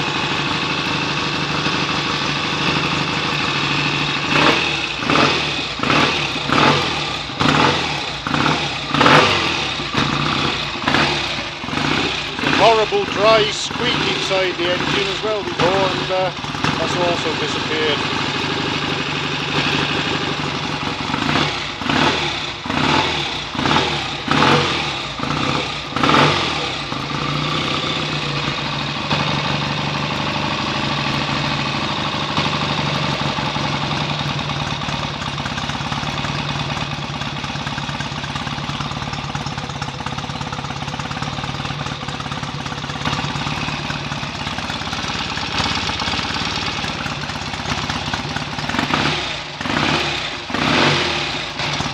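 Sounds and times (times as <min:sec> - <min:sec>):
motorcycle engine revving and idling: 0:00.0 - 0:51.9.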